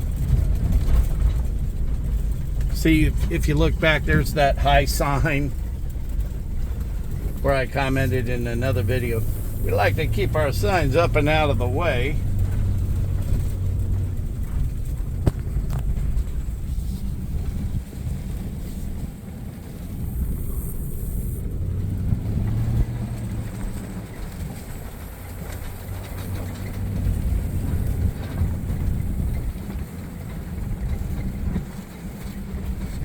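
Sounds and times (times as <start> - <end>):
vehicle engine rumble: 0.0 - 33.0.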